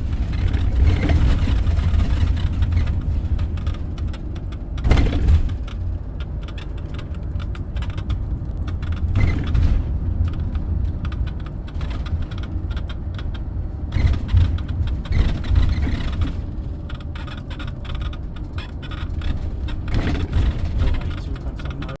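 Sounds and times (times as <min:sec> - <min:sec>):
road and engine rumble: 0:00.0 - 0:22.0
vehicle squeaking and rattling: 0:00.0 - 0:22.0.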